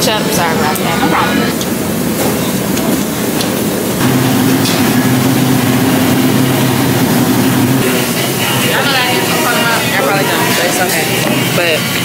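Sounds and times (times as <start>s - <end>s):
low machine hum: 0.0s - 11.6s
restaurant room noise: 0.0s - 12.0s.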